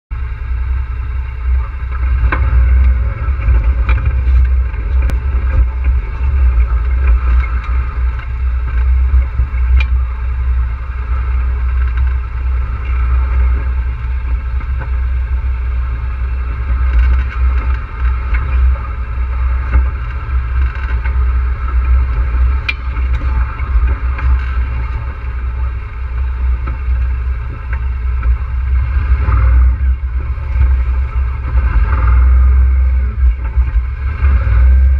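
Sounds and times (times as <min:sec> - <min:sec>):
atv engine rumble: 0:00.1 - 0:34.9.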